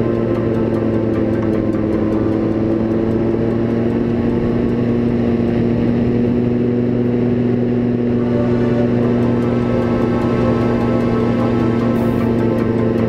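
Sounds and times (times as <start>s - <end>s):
paramotor engine drone: 0.0s - 13.0s.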